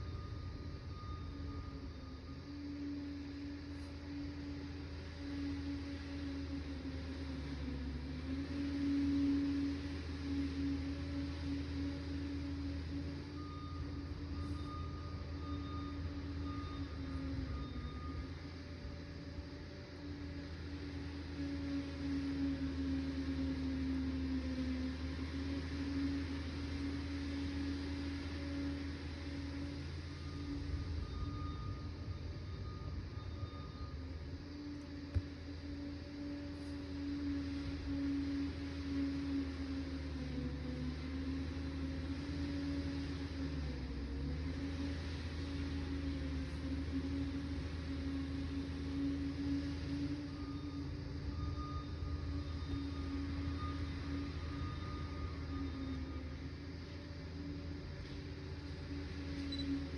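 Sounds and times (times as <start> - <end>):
dozer diesel engine running: 0.0 - 59.9.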